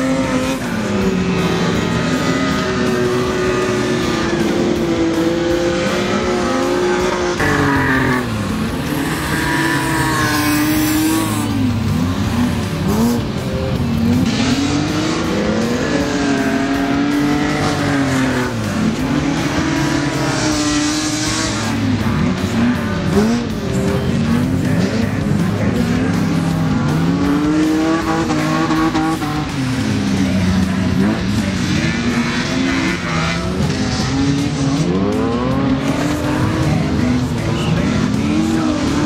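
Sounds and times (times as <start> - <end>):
racing car engines revving: 0.0 - 39.0.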